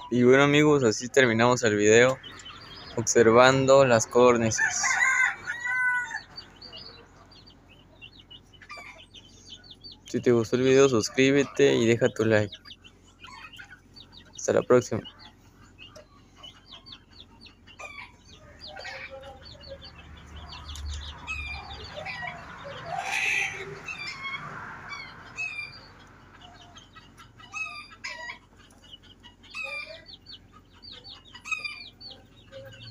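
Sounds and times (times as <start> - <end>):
lower bird calls: 0.0 - 32.9
quail chirping: 0.0 - 32.9.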